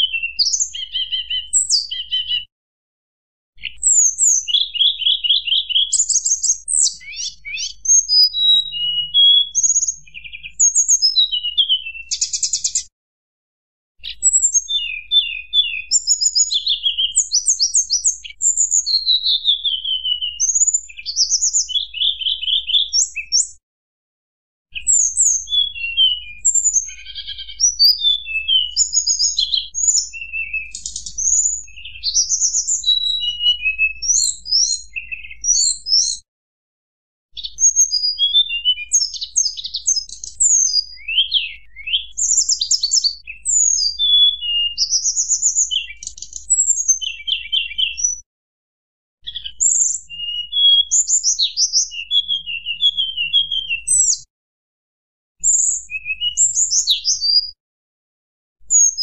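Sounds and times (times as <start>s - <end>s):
bird song with chirps and trills: 0.0s - 2.5s, 3.6s - 12.9s, 14.0s - 23.6s, 24.7s - 36.3s, 37.3s - 48.3s, 49.2s - 54.3s, 55.4s - 57.6s, 58.6s - 59.0s.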